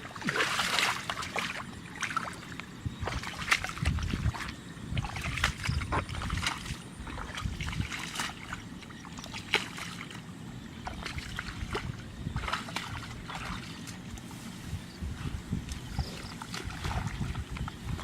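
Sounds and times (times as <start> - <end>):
water splashing and sloshing: 0.0 - 18.0
steady low rumble: 1.1 - 18.0.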